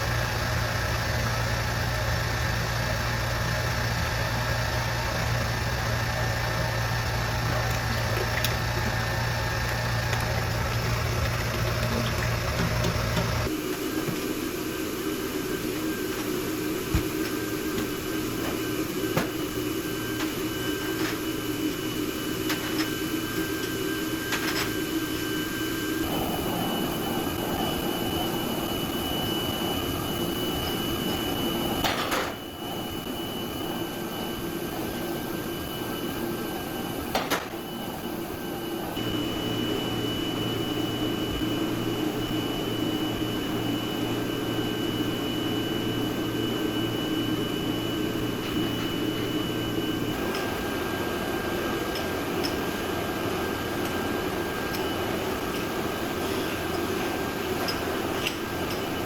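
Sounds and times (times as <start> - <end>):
machinery humming with high whine: 0.0 - 59.0.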